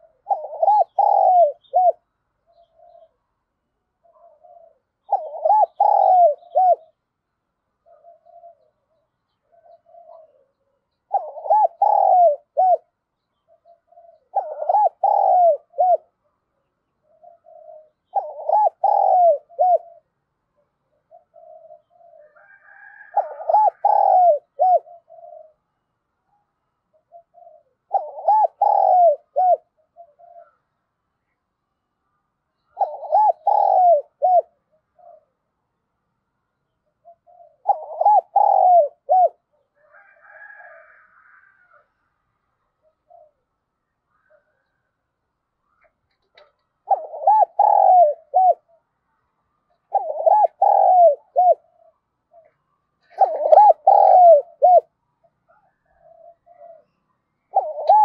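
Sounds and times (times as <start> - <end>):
dove cooing: 0.0 - 7.0, 7.8 - 30.8, 32.6 - 35.5, 36.8 - 41.9, 42.7 - 44.9, 45.6 - 49.0, 49.7 - 58.0.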